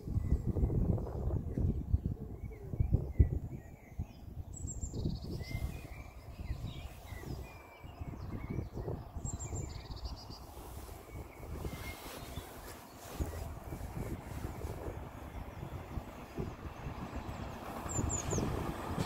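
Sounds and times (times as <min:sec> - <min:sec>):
small birds chirping: 0:00.0 - 0:19.0
wind rumbling on microphone: 0:00.0 - 0:19.0.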